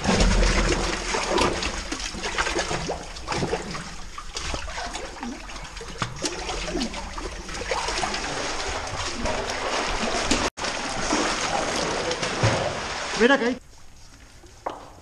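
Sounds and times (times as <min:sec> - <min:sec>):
water sloshing and splashing: 0:00.0 - 0:14.9.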